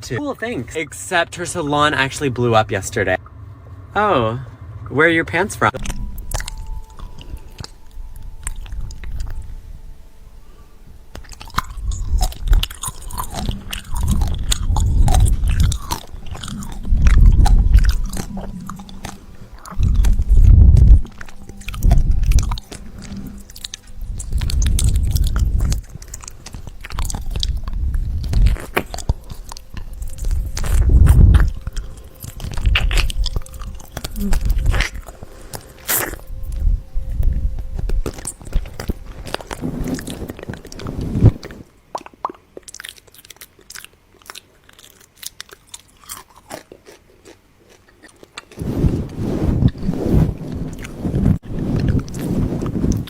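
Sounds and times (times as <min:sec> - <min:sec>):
chewing crunchy food: 0:05.8 - 0:53.0.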